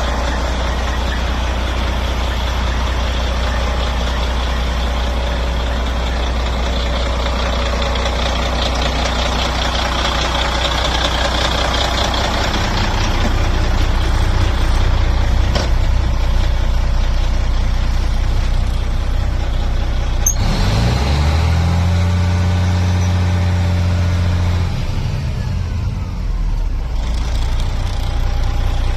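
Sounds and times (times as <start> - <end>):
truck engine idling and revving: 0.0 - 28.9.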